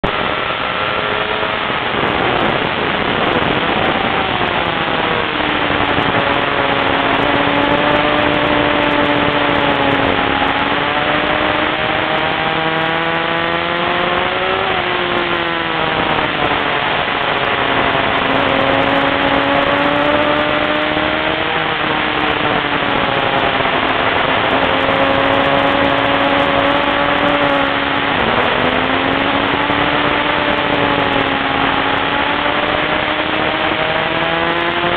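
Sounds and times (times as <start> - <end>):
car engine revving: 0.0 - 34.9
wind and road noise: 0.0 - 34.9.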